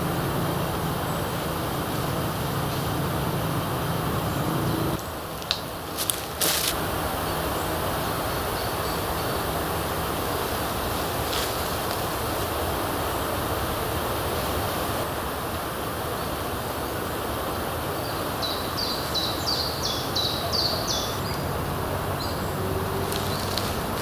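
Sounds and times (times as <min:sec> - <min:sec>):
songbird singing: 0:00.0 - 0:13.5, 0:17.0 - 0:24.0.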